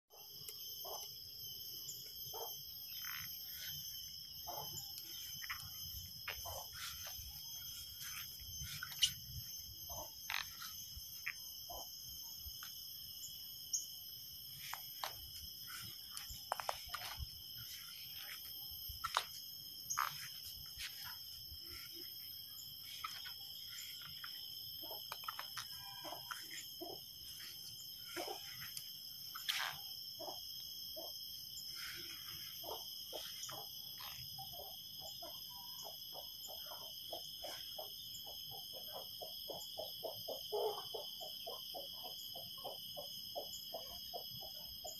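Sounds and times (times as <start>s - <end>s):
insects shrilling: 0.1s - 43.0s
insect chirps: 0.1s - 44.9s.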